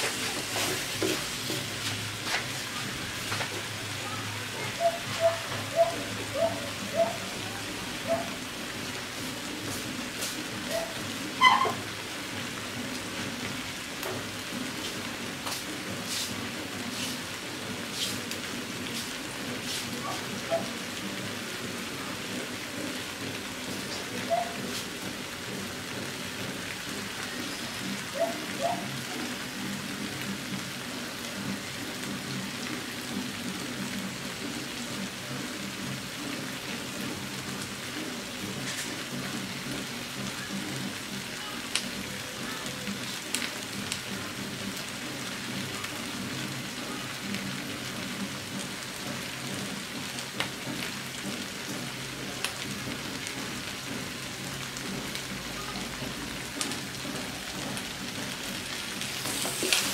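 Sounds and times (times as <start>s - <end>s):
food sizzling in a wok: 0.0s - 59.9s.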